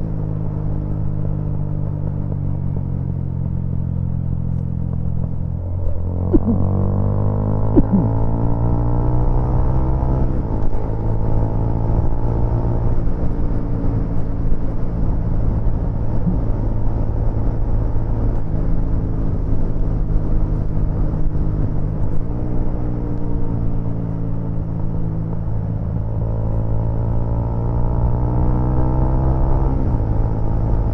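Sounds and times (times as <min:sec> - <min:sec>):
motorcycle engine running: 0:00.0 - 0:09.4, 0:10.4 - 0:27.2.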